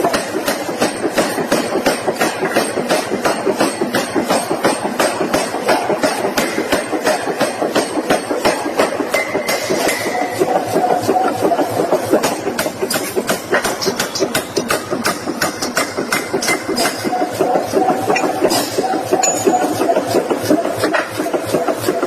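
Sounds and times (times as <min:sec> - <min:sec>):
forging hammer striking: 0:00.0 - 0:21.0
workshop machinery running: 0:00.0 - 0:22.0.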